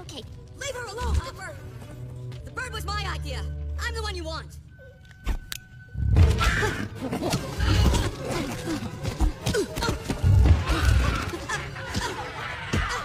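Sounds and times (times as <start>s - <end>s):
dramatic orchestral music: 0.0s - 13.0s.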